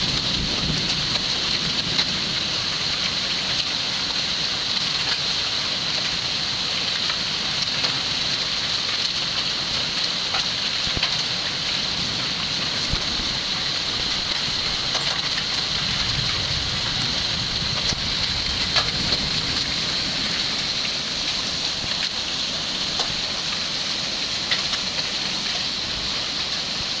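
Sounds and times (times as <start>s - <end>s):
driving rain hiss: 0.0s - 27.0s
hailstones ticking: 0.0s - 27.0s.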